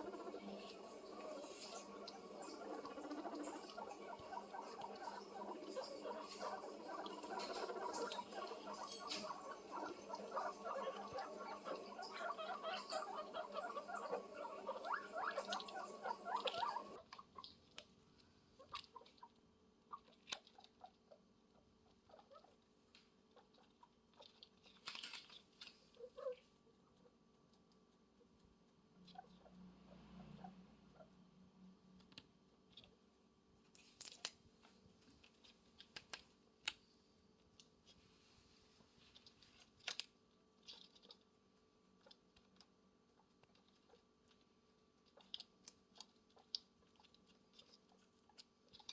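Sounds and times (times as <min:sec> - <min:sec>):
guinea pig squeaking: 0:00.0 - 0:17.9, 0:18.6 - 0:31.4, 0:39.2 - 0:48.9.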